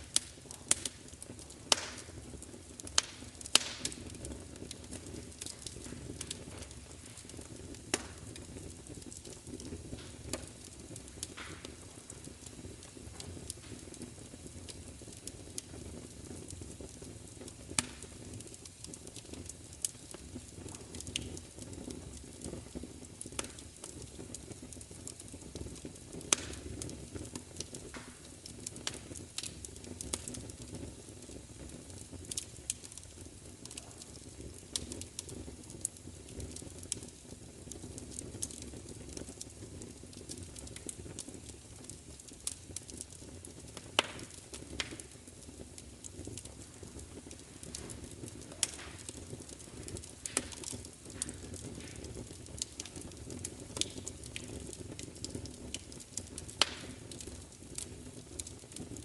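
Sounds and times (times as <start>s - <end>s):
low rush of burning: 0.0s - 58.9s
wood fire crackling: 0.0s - 59.0s.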